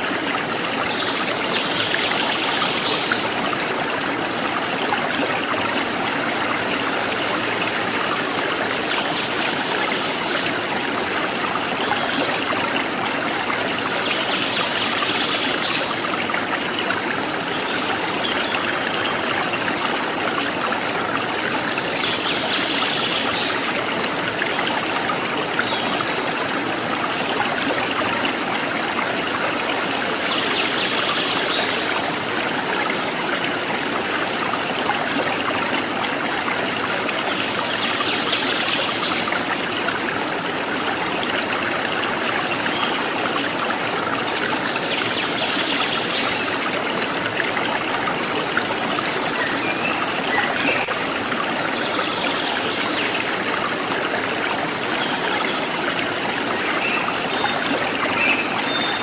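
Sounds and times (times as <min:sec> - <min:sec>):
forest stream babbling: 0:00.0 - 0:59.0.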